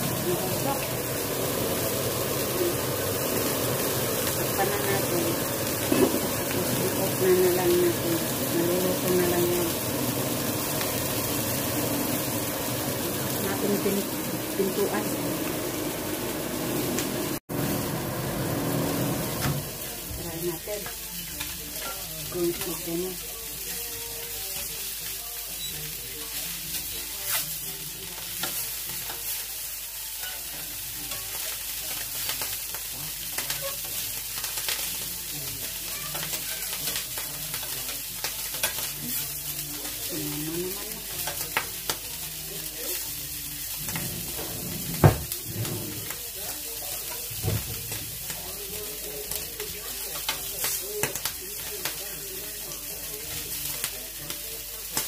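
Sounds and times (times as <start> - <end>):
fish sizzling in a grill pan: 0.0 - 55.0.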